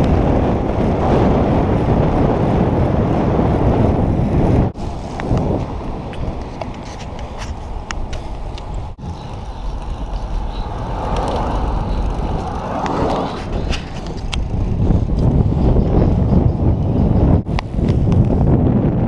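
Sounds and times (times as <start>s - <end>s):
tyre and road rumble: 0.0s - 19.0s
wind buffeting microphone: 0.0s - 19.0s.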